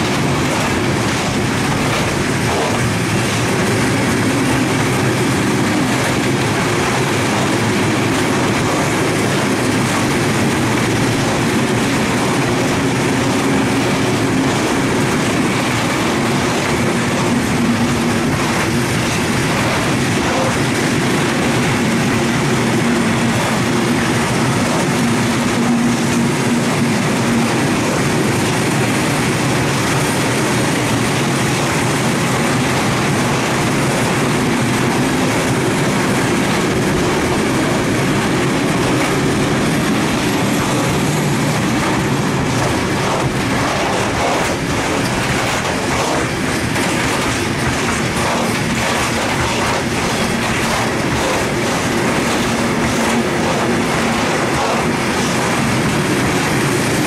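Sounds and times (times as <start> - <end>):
freight train rolling past: 0.0 - 57.0
steel wheels rumbling on rails: 0.0 - 57.0.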